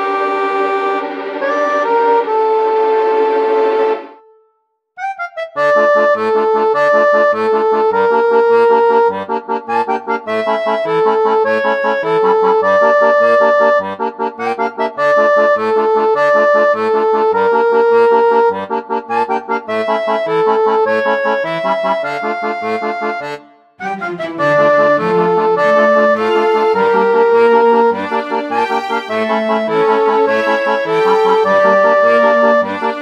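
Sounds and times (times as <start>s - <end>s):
lively instrumental music: 0.0s - 33.0s.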